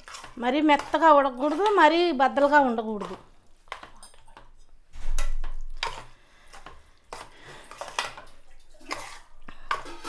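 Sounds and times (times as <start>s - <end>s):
spoon scraping a cooking pan: 0.0s - 10.0s.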